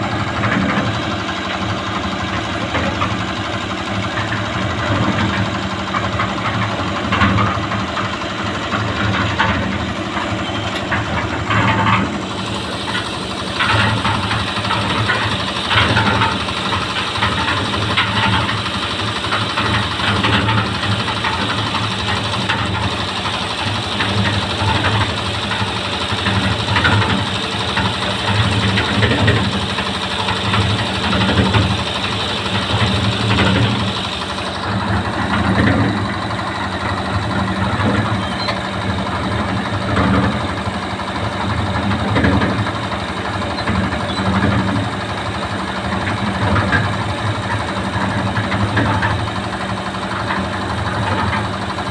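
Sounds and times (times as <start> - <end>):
concrete mixer engine running: 0.0 - 51.9.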